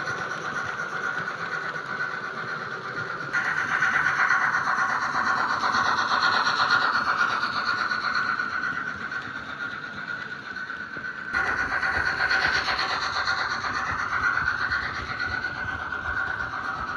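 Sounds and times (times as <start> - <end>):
model train motor whine: 0.0 - 16.9
wheels rattling on rails: 0.0 - 16.9.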